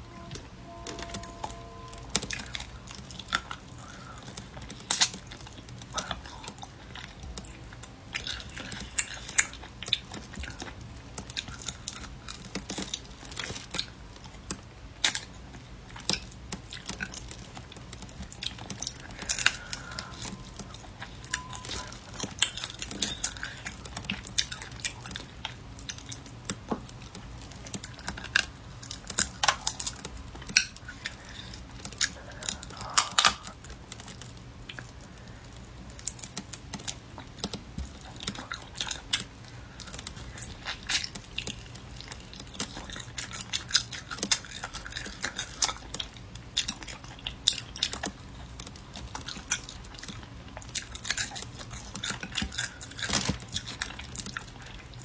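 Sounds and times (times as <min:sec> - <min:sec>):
close chewing and gnawing: 0:00.0 - 0:55.0.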